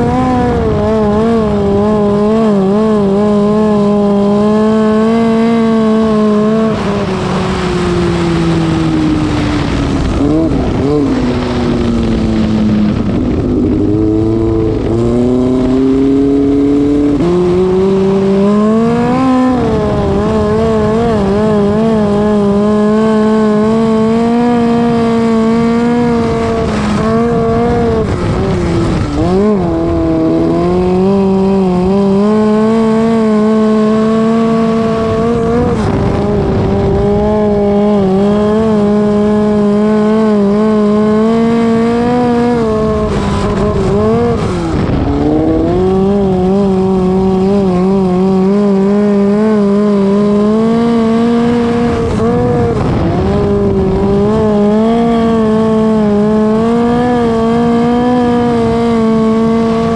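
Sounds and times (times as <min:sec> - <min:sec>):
race car engine at speed: 0:00.0 - 0:59.9.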